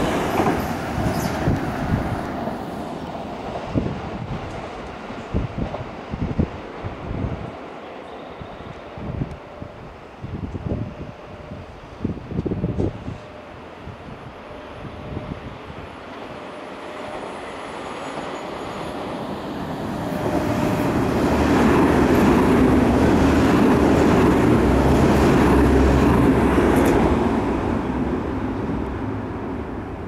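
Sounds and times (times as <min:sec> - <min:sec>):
electric train running past: 0:00.0 - 0:30.0.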